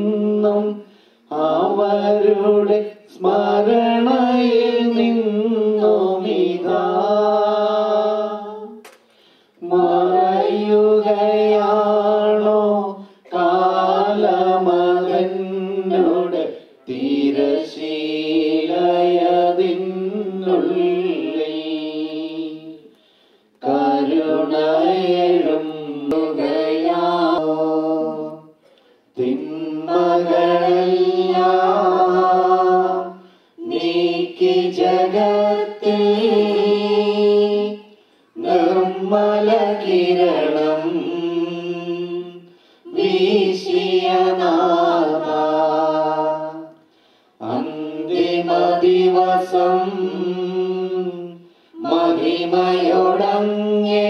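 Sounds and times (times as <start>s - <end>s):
voices singing a hymn: 0.0s - 54.0s.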